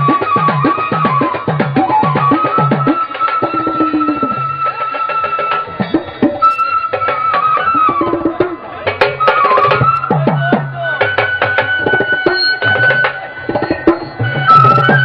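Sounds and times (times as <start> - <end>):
barrel drum fast rhythm: 0.0 - 15.0
high melody instrument: 0.0 - 15.0.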